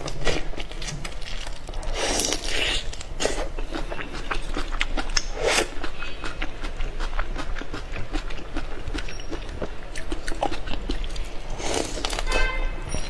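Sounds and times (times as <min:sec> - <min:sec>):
person biting and chewing food: 0:00.0 - 0:12.3.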